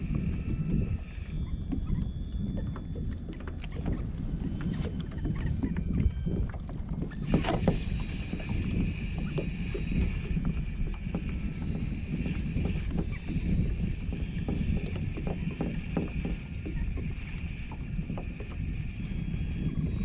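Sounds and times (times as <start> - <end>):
steady low rumble: 0.0 - 20.0
water slapping kayak hull: 0.0 - 20.0.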